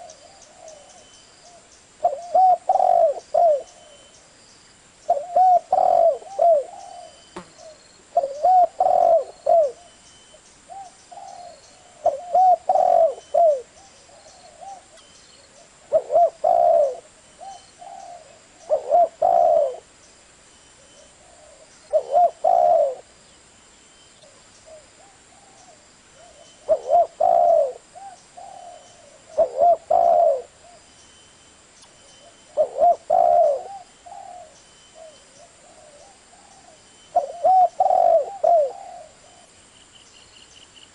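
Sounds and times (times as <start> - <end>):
dove cooing: 0.0 - 4.1, 5.1 - 10.0, 10.7 - 19.9, 20.8 - 23.1, 24.2 - 30.9, 32.2 - 39.6.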